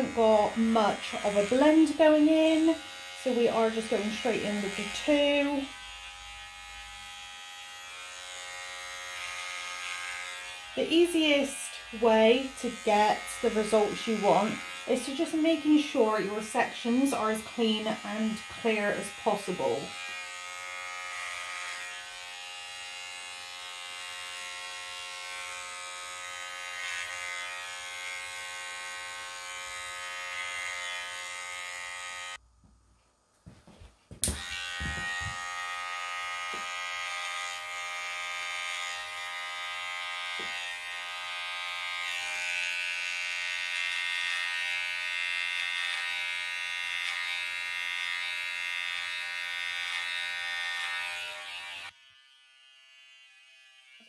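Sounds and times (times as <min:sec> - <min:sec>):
hair clippers buzzing: 0:00.0 - 0:54.0.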